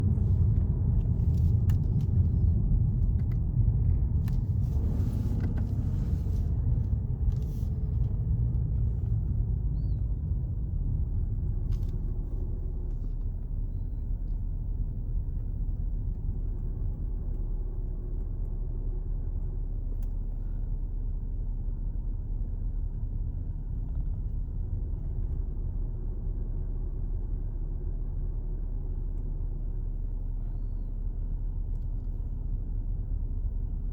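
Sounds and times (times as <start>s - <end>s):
car cabin rumble and hum: 0.0s - 33.9s.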